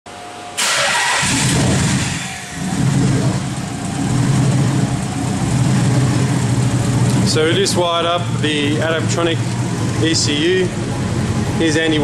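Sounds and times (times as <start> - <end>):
car engine running: 0.6 - 12.0.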